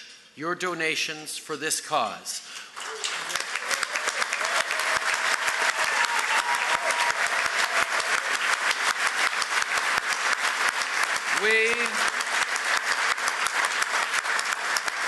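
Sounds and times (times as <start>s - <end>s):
audience applauding: 2.7s - 15.0s.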